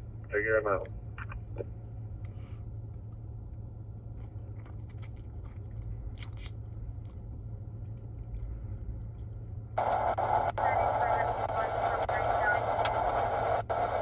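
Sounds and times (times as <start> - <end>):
road and engine noise in cabin: 0.0 - 14.0.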